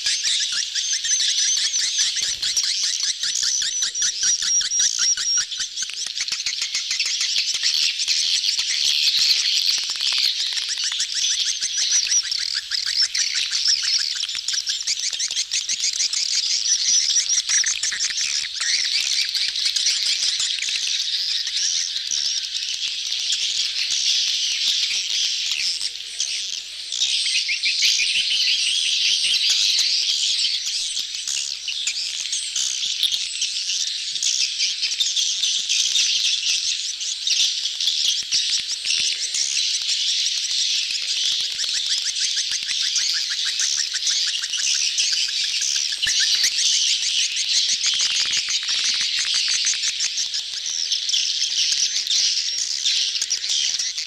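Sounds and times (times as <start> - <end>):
swiftlets chirping and twittering: 0.0 - 54.0.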